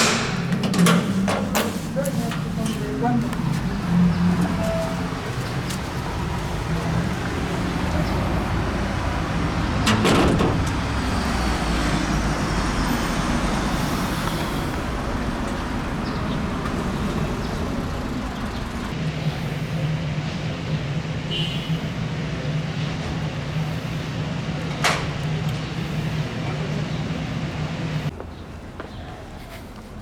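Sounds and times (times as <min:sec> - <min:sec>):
vehicles passing by: 0:00.0 - 0:30.0.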